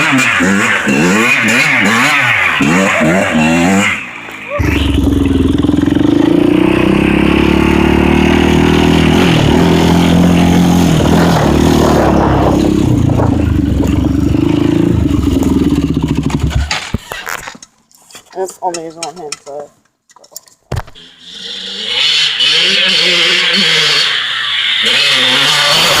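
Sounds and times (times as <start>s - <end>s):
dirt bike engine revving: 0.0s - 16.9s, 20.9s - 26.0s.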